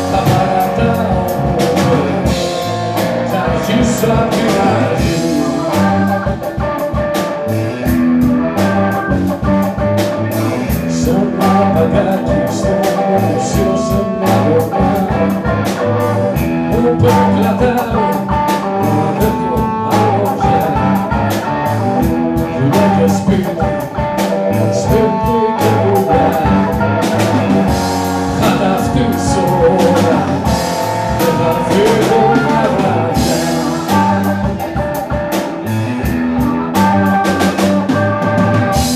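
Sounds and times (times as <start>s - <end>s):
man singing: 0.0s - 7.4s, 8.6s - 38.9s
bass guitar: 0.0s - 38.9s
drum kit beat: 0.0s - 38.9s
electric guitar: 0.0s - 38.9s
keyboard: 0.0s - 38.9s.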